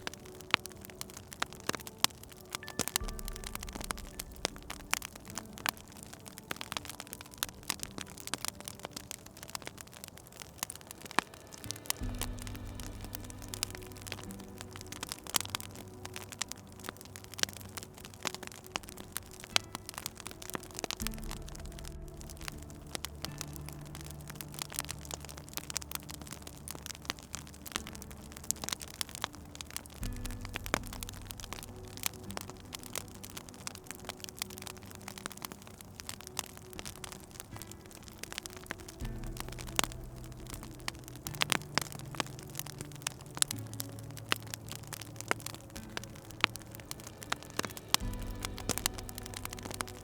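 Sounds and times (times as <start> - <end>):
low steady held tones: 0.0 - 50.0
soft hiss: 0.0 - 50.0
wood fire crackling and popping: 0.0 - 50.0.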